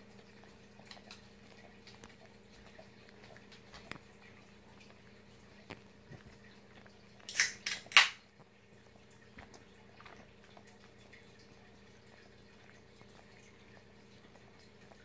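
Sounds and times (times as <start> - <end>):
dog licking wet clicks: 0.1 - 15.0.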